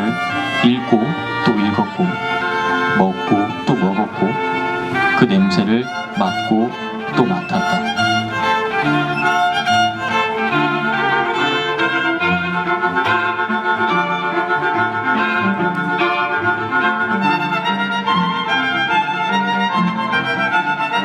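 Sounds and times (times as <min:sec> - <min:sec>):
low bowed string notes: 0:00.0 - 0:21.0
violin melody: 0:00.0 - 0:21.0.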